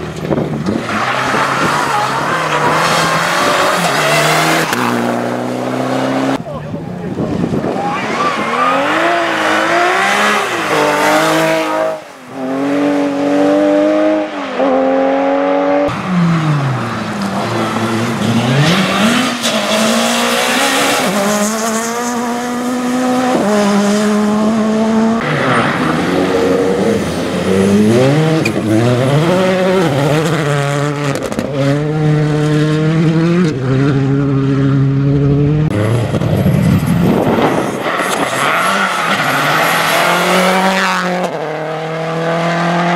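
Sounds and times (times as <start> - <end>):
rally car engines at full throttle: 0.0 - 42.9.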